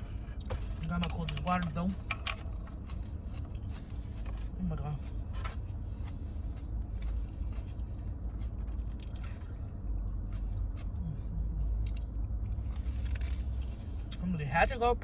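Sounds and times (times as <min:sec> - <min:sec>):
car air conditioning rumble: 0:00.0 - 0:15.0.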